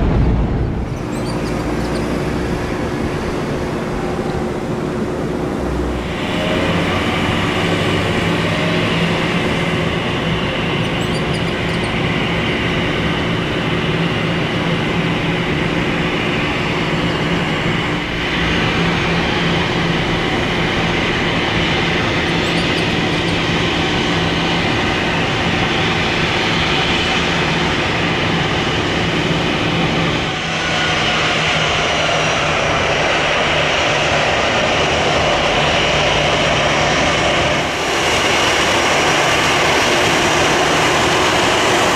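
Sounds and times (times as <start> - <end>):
jet engine whine: 0.0 - 41.9
jet engines roaring: 0.0 - 41.9.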